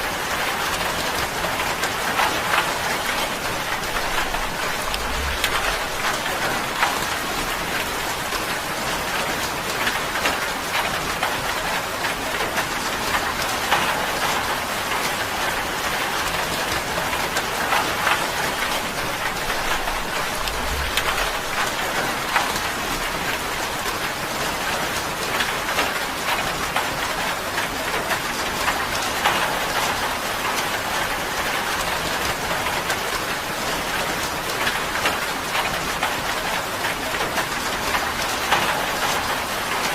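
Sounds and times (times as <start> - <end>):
rain drumming on a tin roof: 0.0 - 39.9.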